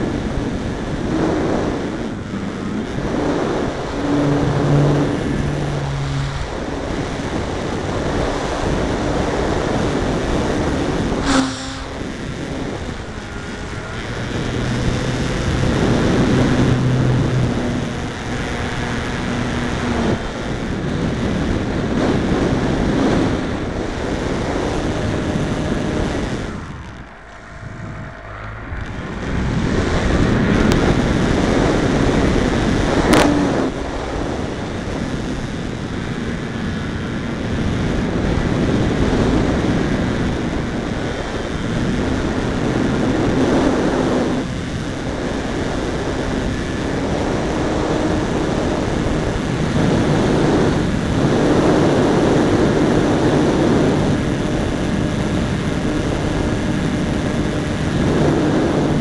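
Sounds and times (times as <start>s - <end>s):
model plane motor drone: 0.0s - 59.0s
wind rushing over microphone: 0.0s - 59.0s.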